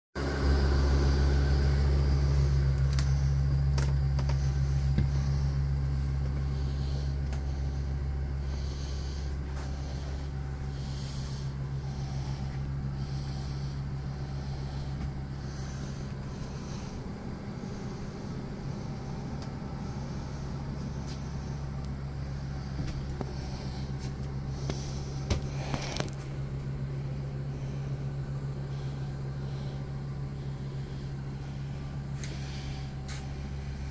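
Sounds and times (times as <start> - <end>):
low mechanical hum: 0.2 - 33.9.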